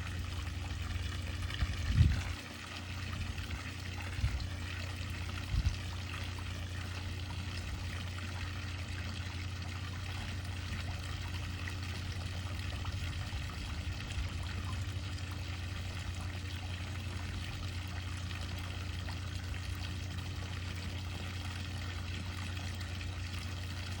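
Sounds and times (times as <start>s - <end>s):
steady low hum: 0.0s - 24.0s
water trickling into pool: 0.0s - 24.0s.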